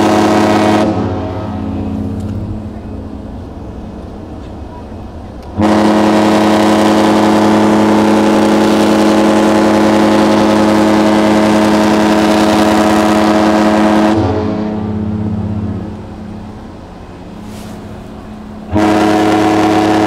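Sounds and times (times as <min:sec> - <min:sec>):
ship horn blast: 0:00.0 - 0:03.2, 0:04.7 - 0:20.0.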